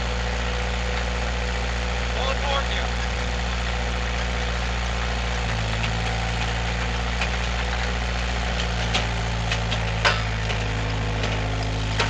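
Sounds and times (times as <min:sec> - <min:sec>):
skid steer engine idling: 0:00.0 - 0:12.0.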